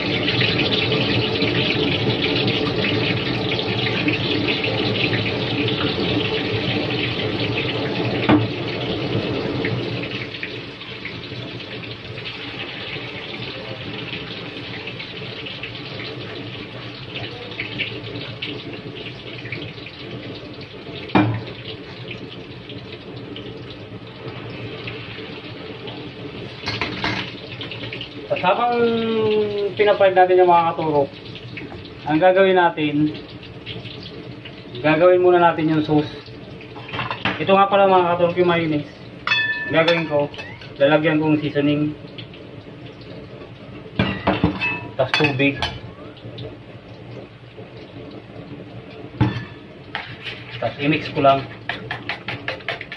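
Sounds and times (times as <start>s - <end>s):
tofu deep-frying in hot oil: 0.0s - 52.9s.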